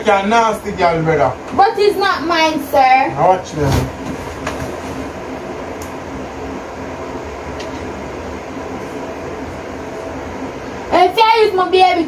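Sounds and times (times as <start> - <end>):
electric fan whirring: 0.0 - 12.0.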